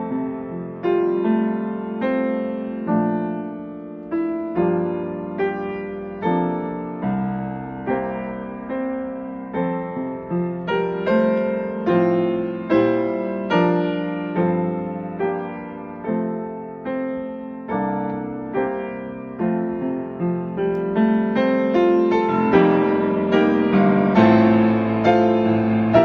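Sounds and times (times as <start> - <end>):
slow solo piano chords: 0.0 - 26.0.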